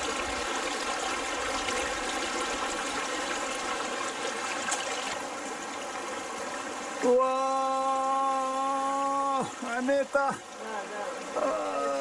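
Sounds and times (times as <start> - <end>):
stream trickling over stones: 0.0 - 12.0.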